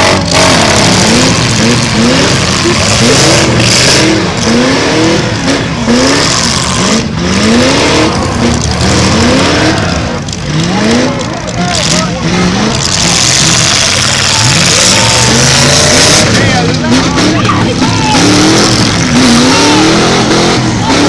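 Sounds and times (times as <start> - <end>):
car engines revving hard: 0.0 - 21.0.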